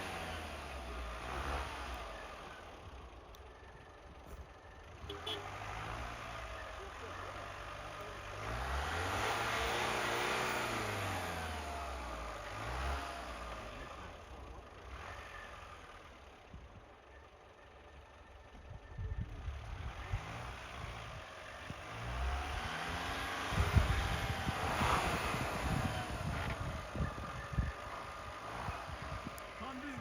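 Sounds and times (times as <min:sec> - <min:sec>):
pickup engine revving: 0:00.0 - 0:03.1, 0:05.2 - 0:16.4, 0:19.5 - 0:30.0.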